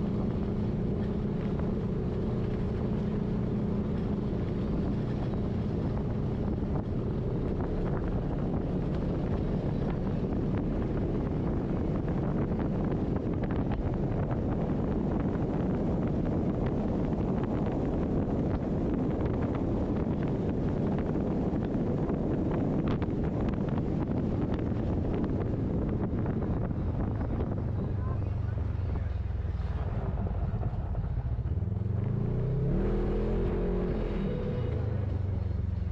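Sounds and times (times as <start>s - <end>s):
vehicle engine running: 0.0s - 35.9s
wind noise on microphone: 0.0s - 35.9s.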